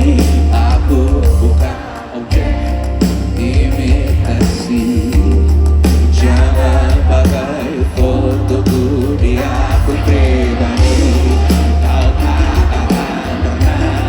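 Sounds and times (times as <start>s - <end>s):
live band music with heavy bass: 0.0s - 14.0s
person singing: 0.0s - 14.0s.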